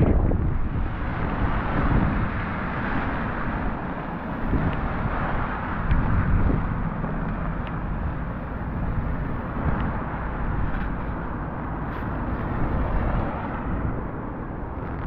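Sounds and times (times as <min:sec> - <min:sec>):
wind rumbling on microphone: 0:00.0 - 0:15.0
tyres hissing on wet road: 0:00.6 - 0:15.0.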